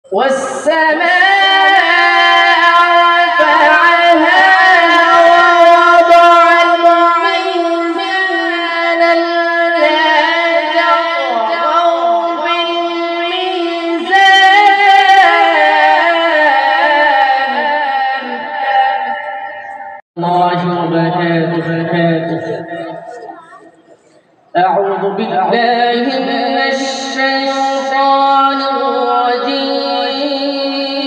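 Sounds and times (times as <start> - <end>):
man chanting through microphones: 0.0 - 23.6, 24.5 - 31.0.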